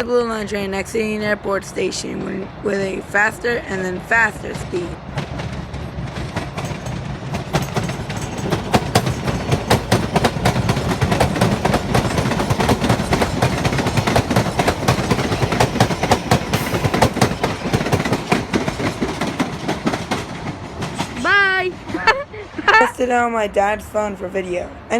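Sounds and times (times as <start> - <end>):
train rumble: 0.0 - 24.9
train wheels clattering: 2.0 - 22.8.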